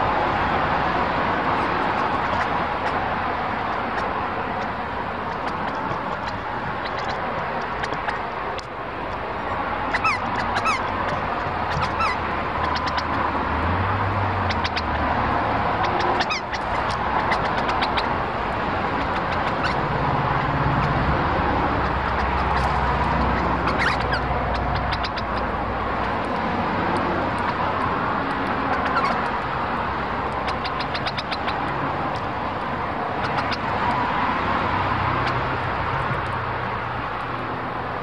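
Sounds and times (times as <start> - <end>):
parrots calling and chattering: 0.0 - 38.0
steady low rumble: 0.0 - 38.0.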